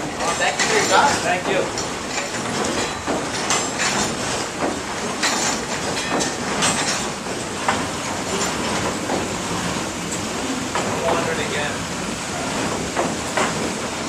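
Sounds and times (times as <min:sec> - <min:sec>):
sawmill machinery clatter: 0:00.0 - 0:14.0.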